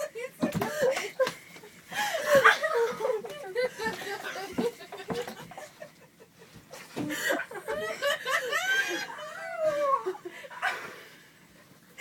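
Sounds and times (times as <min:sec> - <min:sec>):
young women laughing: 0:00.0 - 0:10.8.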